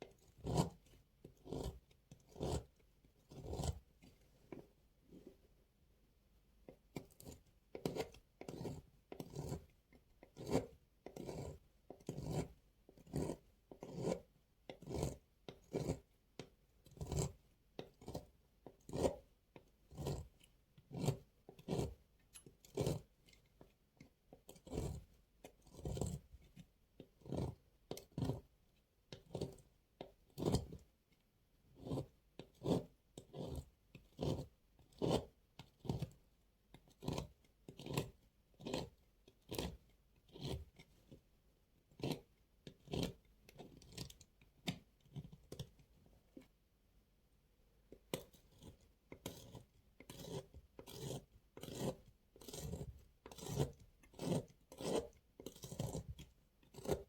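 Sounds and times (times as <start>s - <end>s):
knife cutting dry soap: 0.0s - 57.0s.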